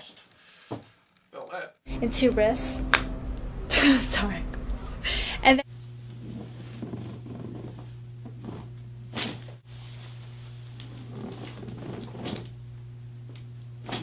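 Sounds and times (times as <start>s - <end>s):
steady low hum: 1.9s - 14.0s.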